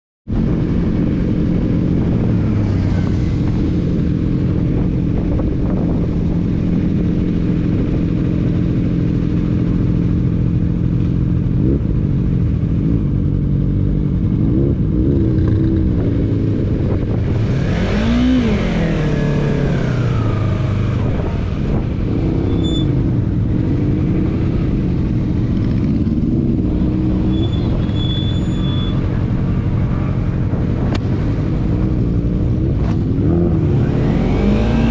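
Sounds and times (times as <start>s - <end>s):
motorcycle revving: 0.3s - 34.9s.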